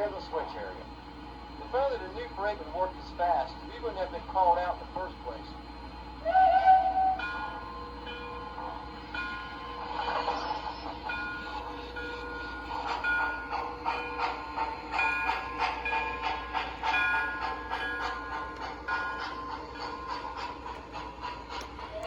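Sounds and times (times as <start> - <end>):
model steam locomotive chuffs: 0.0 - 22.0.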